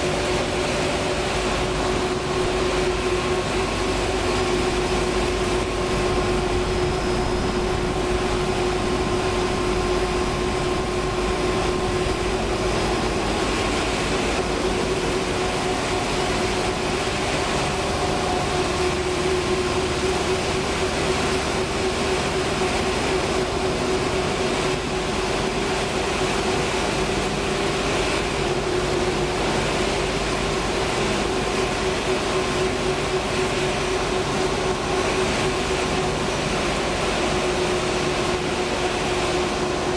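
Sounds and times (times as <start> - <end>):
production line machinery humming: 0.0 - 39.9.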